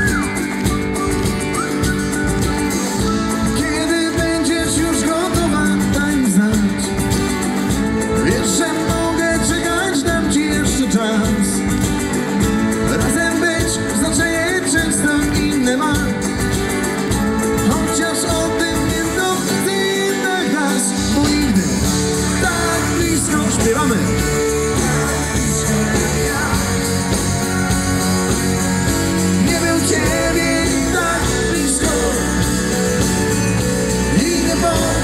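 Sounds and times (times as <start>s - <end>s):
acoustic guitar strumming: 0.0s - 35.0s
drums: 0.0s - 35.0s
man singing: 2.7s - 35.0s.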